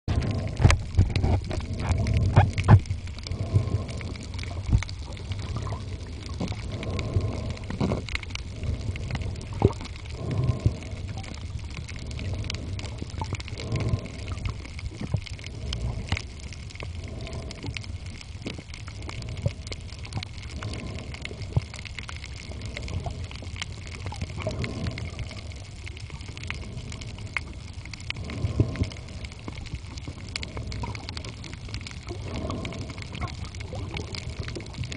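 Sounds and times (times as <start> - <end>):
underwater clicks and crackles: 0.1 - 34.9
underwater water rumble: 0.1 - 34.9.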